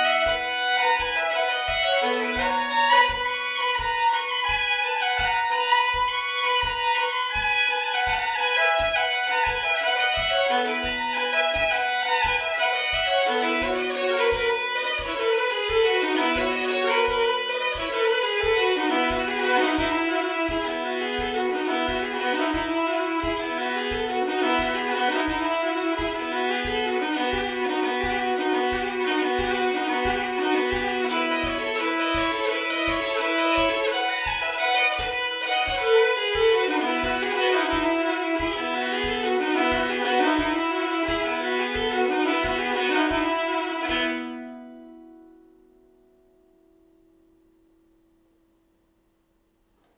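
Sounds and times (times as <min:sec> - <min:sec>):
low thumps keeping beat: 0:00.0 - 0:44.4
fiddle folk tune: 0:00.0 - 0:45.1.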